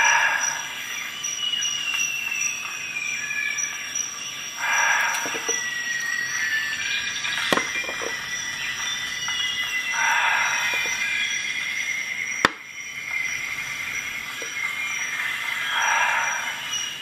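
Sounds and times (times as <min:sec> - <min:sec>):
faint high-pitched tones: 0:00.0 - 0:17.0
steady hiss: 0:00.0 - 0:17.0.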